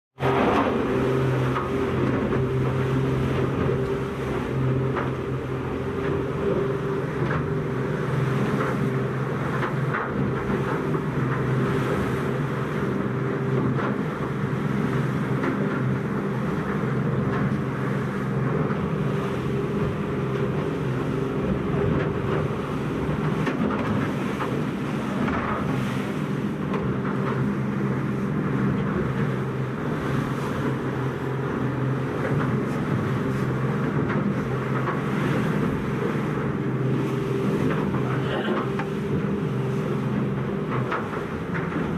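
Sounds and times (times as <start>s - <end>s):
boat engine running: 0.1s - 41.9s
water splashes: 0.2s - 41.9s.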